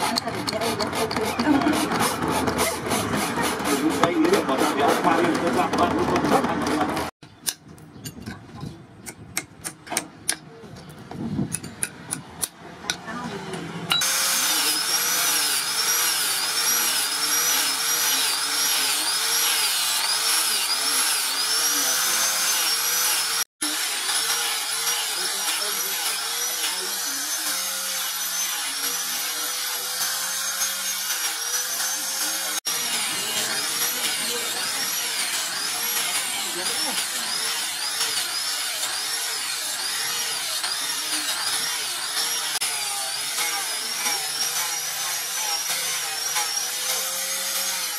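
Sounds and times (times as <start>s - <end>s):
angle grinder sanding wood: 0.0s - 7.1s, 14.0s - 47.9s.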